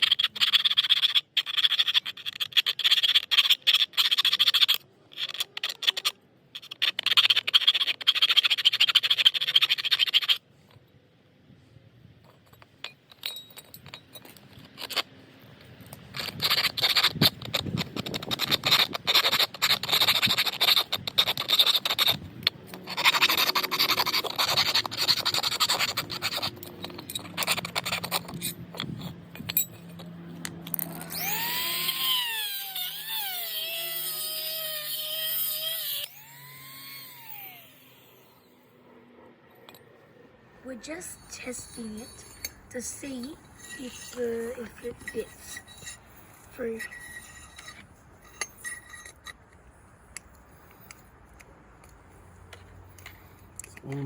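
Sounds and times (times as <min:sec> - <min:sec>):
hand file scraping: 0:00.0 - 0:10.4, 0:13.8 - 0:30.4, 0:31.0 - 0:38.5, 0:40.8 - 0:49.7.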